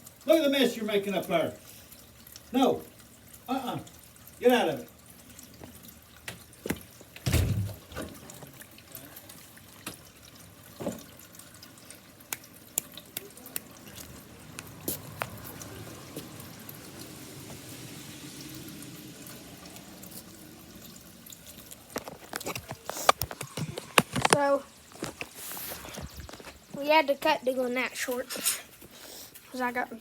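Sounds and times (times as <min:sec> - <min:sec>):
soft wash of water: 0:00.0 - 0:29.8
rain dripping and pattering: 0:00.0 - 0:30.0.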